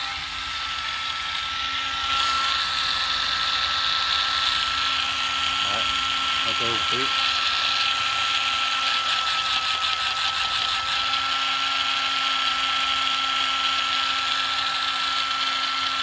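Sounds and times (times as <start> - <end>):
impact driver motor whine: 0.0 - 16.0.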